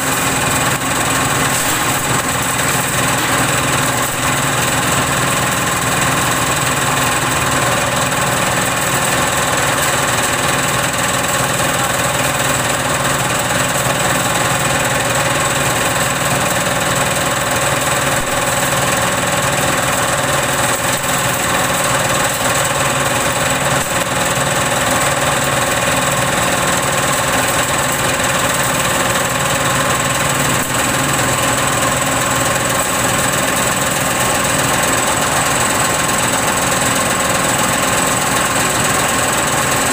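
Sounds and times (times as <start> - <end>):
diesel engine running: 0.0 - 39.9
waste chopper shredding: 0.0 - 39.9.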